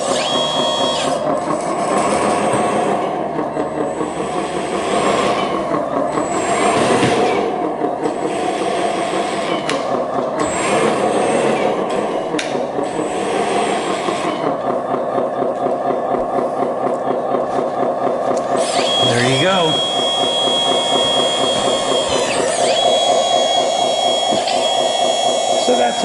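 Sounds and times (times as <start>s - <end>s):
engine rumble through speakers: 0.0s - 26.0s.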